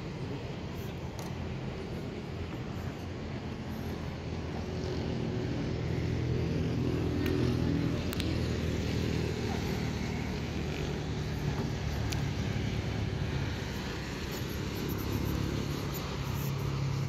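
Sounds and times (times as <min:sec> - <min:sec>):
motor engine passing by: 0:03.0 - 0:17.0.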